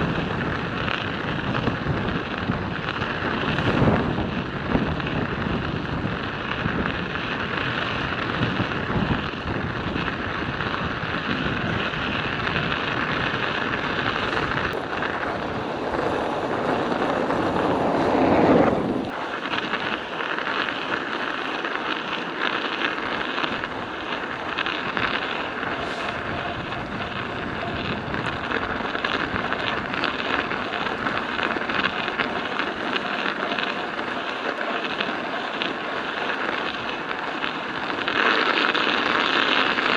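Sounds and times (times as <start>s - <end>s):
bicycle tyres crunching on ice: 0.0s - 39.9s
rush falling in pitch: 0.0s - 39.9s
wind buffeting microphone: 0.0s - 39.9s.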